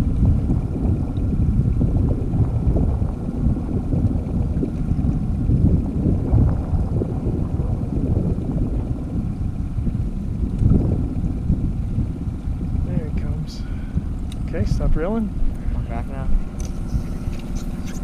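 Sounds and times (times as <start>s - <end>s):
boat motor hum: 0.0s - 18.0s
wind buffeting microphone: 0.0s - 18.0s.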